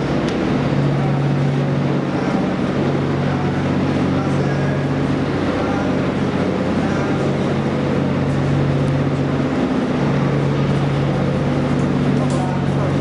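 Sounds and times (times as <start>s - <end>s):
train machine hum: 0.0s - 13.0s.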